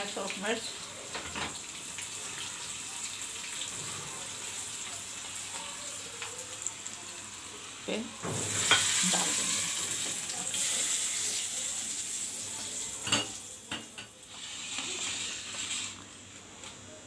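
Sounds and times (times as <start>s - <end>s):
hot oil sizzling loudly: 0.0s - 16.1s.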